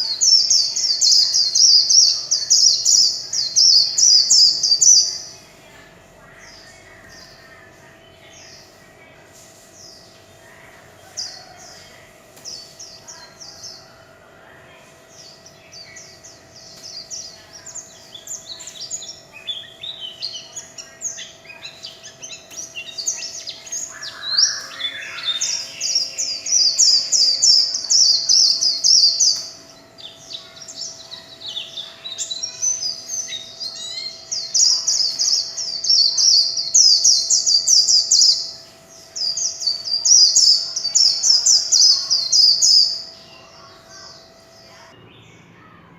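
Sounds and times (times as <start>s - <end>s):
bird singing high warbling song: 0.0s - 45.9s.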